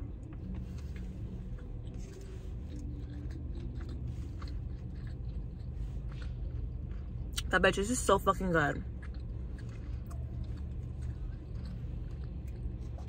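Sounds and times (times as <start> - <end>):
person chewing: 0.0 - 7.5, 8.7 - 13.0
steady low hum: 0.0 - 13.0.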